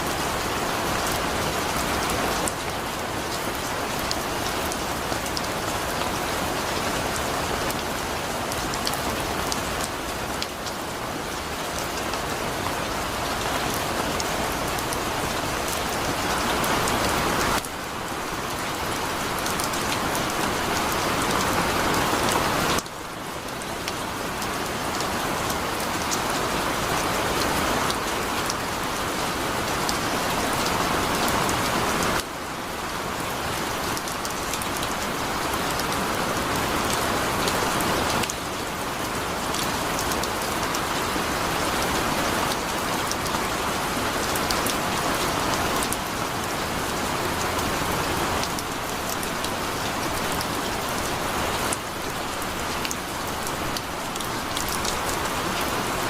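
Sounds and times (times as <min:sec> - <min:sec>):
heavy rain on surfaces: 0:00.0 - 0:56.0.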